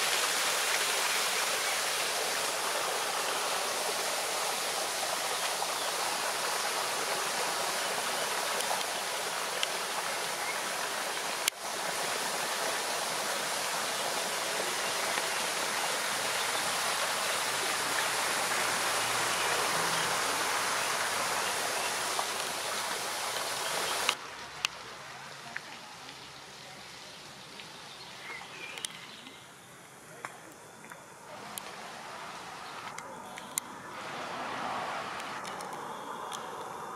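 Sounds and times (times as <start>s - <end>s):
running water rushing: 0.0s - 28.6s, 30.7s - 36.9s.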